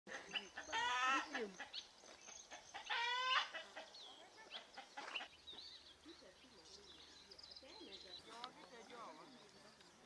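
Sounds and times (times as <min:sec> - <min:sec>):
birds chirping and calling: 0:00.1 - 0:10.0.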